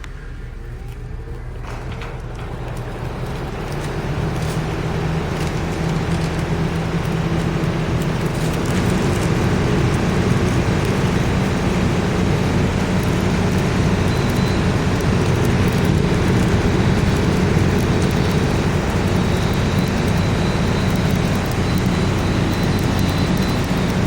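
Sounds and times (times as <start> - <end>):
air conditioner fan rushing: 0.0 - 24.0
low electrical hum: 0.0 - 24.0.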